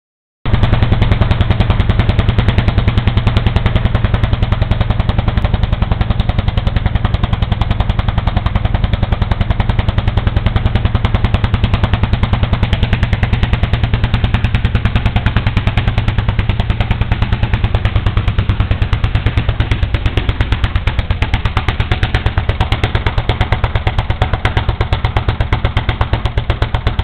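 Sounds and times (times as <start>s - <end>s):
two-stroke engine running: 0.5s - 27.0s.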